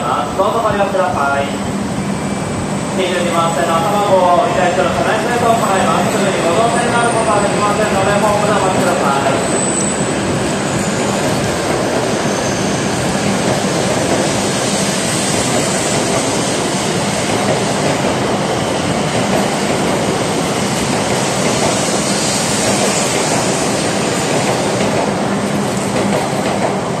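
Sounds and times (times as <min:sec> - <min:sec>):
train cars passing: 0:00.0 - 0:27.0.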